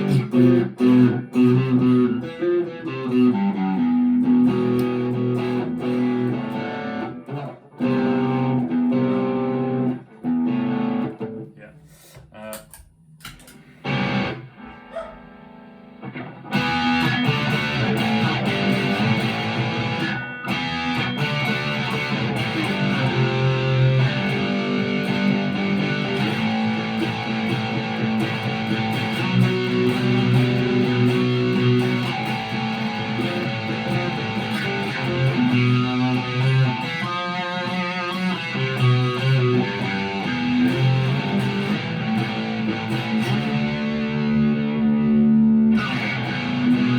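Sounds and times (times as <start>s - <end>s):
overdriven electric guitar: 0.0s - 11.6s, 12.7s - 46.9s.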